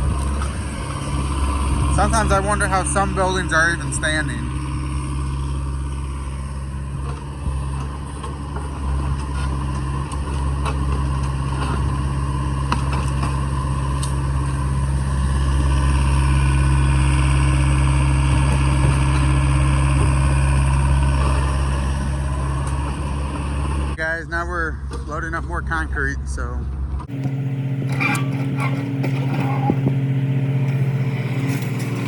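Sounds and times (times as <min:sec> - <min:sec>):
digging machine diesel engine: 0:00.0 - 0:24.0, 0:27.0 - 0:32.0.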